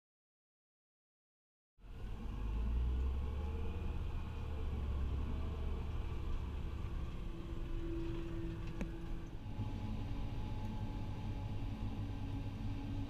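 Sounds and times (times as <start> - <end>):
tractor engine droning: 1.8 - 13.0.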